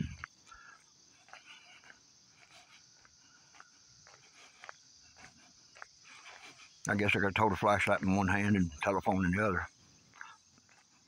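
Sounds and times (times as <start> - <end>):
footsteps on paved road: 0.0 - 11.0
insects chirring: 0.0 - 11.0.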